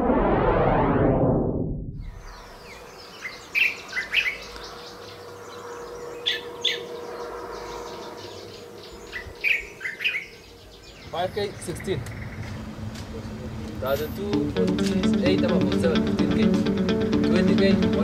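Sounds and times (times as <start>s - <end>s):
birds chirping: 2.0s - 18.0s.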